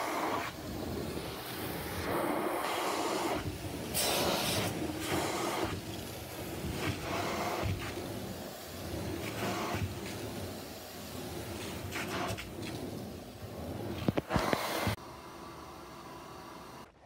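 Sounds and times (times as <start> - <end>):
carpet extraction wand rushing: 0.0 - 15.0.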